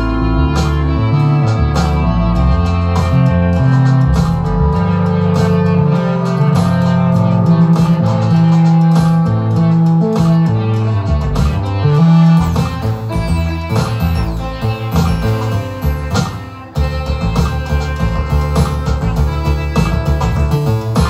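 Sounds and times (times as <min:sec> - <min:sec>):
bass line: 0:00.0 - 0:21.0
electric guitar playing: 0:00.0 - 0:21.0
sampled drum beat: 0:00.0 - 0:21.0.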